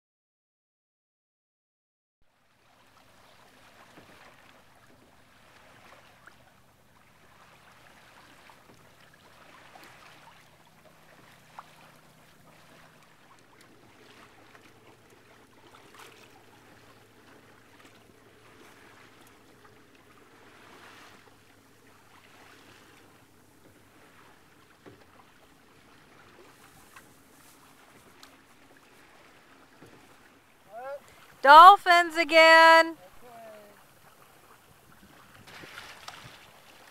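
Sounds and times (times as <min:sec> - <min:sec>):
water washing along boat hull: 0:02.4 - 0:31.4, 0:33.2 - 0:36.9.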